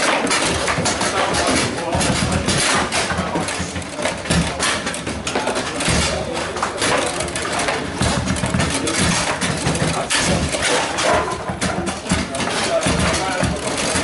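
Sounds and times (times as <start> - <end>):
background din: 0.0 - 14.0
rods banging against table: 0.0 - 14.0
table football knocks and clacks: 0.0 - 14.0.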